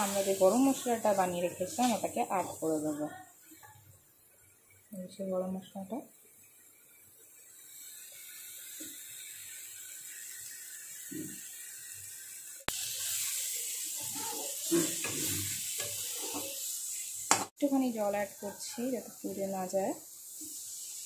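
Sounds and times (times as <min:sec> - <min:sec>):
paste frying in oil: 0:00.0 - 0:21.0.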